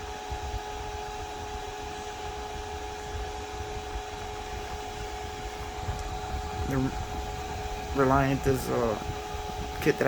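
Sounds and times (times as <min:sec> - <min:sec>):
constant tones: 0:00.3 - 0:10.0.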